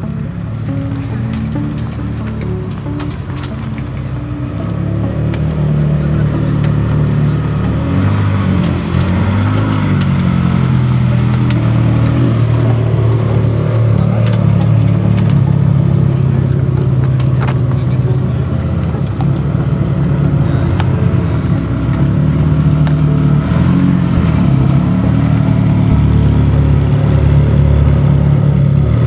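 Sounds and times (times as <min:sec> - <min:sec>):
car engine at low revs: 0:00.0 - 0:29.0.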